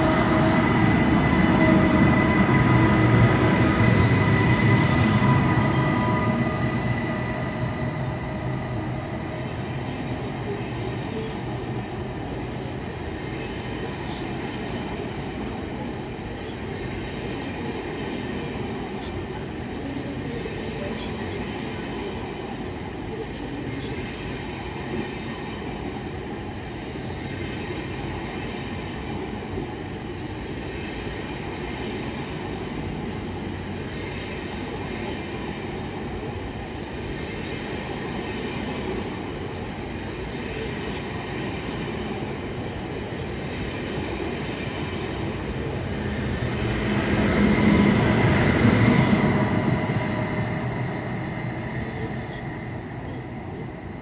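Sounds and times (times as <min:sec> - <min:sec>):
train coaches and wheels rumbling: 0:00.0 - 0:54.0
train power car whine: 0:00.0 - 0:54.0.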